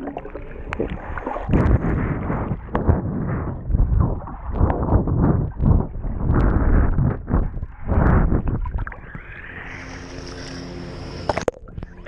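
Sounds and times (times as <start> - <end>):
muffled water sloshing: 0.0 - 12.0.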